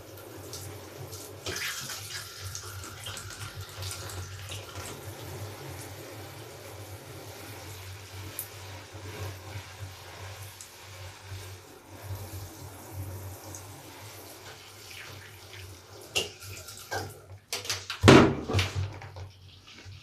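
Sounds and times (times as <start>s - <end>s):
sponge squishing with soapy water: 0.0s - 17.4s, 18.3s - 20.0s.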